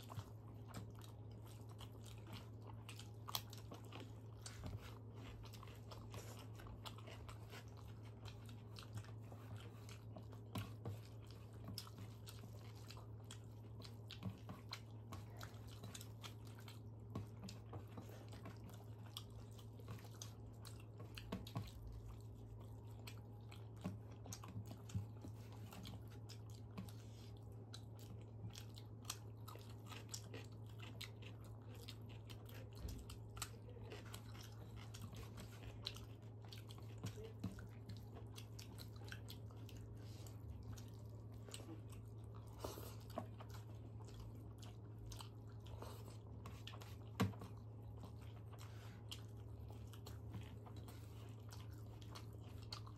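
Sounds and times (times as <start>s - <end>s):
chewing and mouth sounds: 0.0s - 52.9s
steady low hum: 0.0s - 52.9s.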